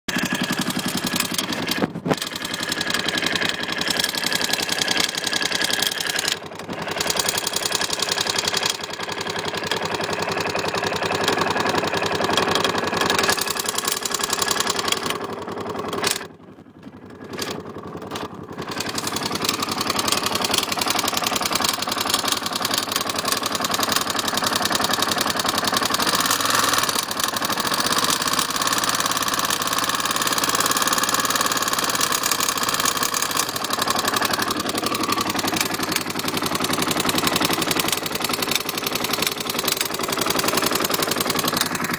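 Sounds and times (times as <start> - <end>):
motorcycle engine running: 0.1 - 41.9.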